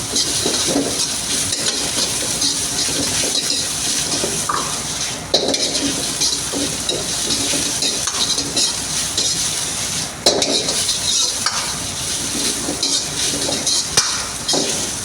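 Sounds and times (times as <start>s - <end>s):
food sizzling in a pan: 0.0s - 15.0s
metal clanking on a pan: 0.0s - 15.0s
metal utensil scraping a pan: 0.1s - 15.0s.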